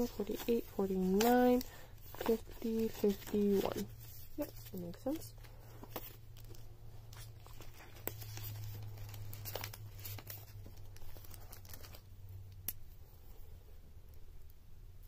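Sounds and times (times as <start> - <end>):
plastic sleeves and paper rustling: 0.0 - 13.0.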